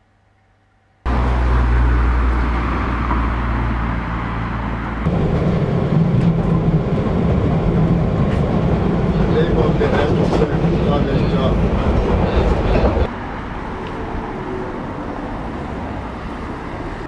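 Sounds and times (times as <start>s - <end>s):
moving vehicle hum: 1.0s - 17.0s.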